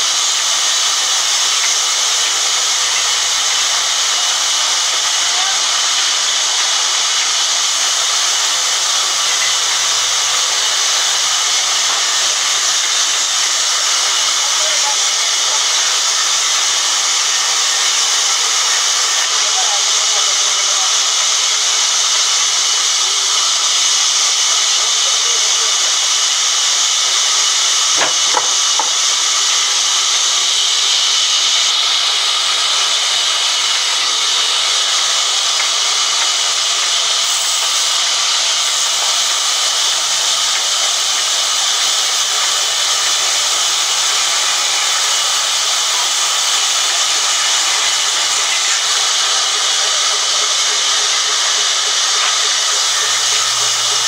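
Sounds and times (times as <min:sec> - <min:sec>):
band saw cutting timber: 0:00.0 - 0:54.0.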